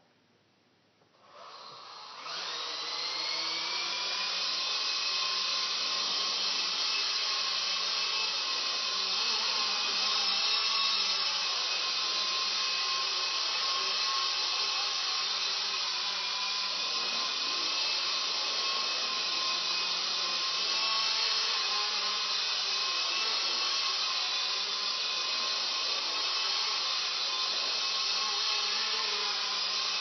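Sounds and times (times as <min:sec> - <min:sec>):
toy helicopter rotor whine: 0:01.2 - 0:30.0.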